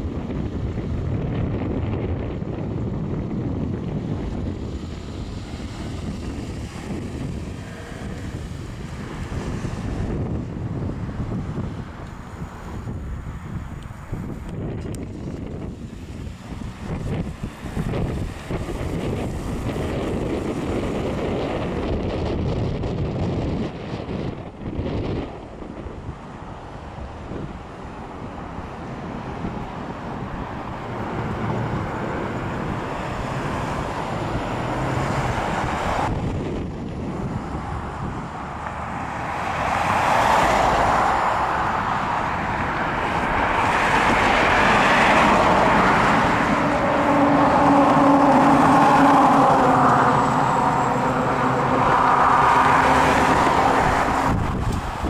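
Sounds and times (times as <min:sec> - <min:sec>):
cars driving by: 0:00.0 - 0:55.0
wind buffeting microphone: 0:00.0 - 0:55.0.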